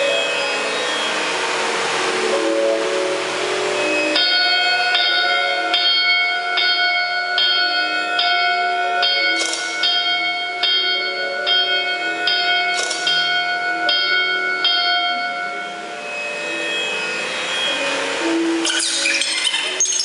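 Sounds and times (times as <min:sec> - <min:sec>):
bell-like chimes music: 0:00.0 - 0:20.0.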